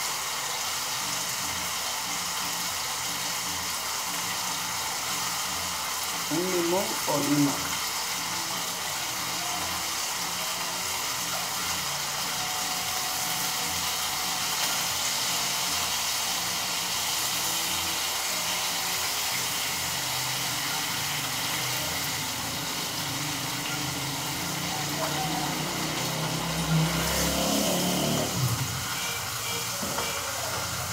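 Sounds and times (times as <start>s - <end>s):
meat sizzling in a pan: 0.0s - 30.9s.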